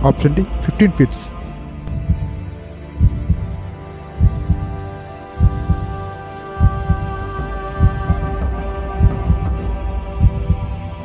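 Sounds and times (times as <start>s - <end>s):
steady held drone: 0.0s - 11.0s
heartbeat thumps: 1.9s - 11.0s.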